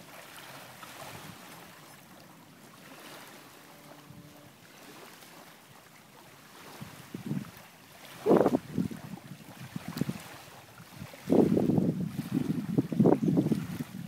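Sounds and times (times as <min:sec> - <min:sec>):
light breeze: 0:00.0 - 0:14.0
small waves on a pebble shore: 0:00.0 - 0:14.0.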